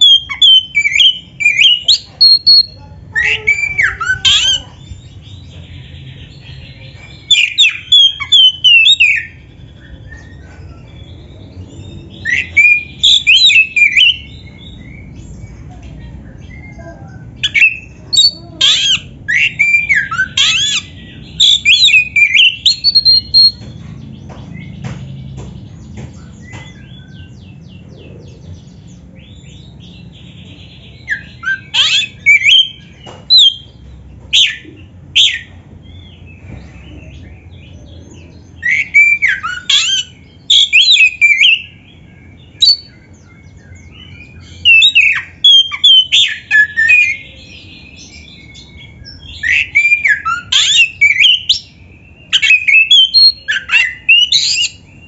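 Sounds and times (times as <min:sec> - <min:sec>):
bird whistled song: 0:00.0 - 0:23.8, 0:24.5 - 0:55.0.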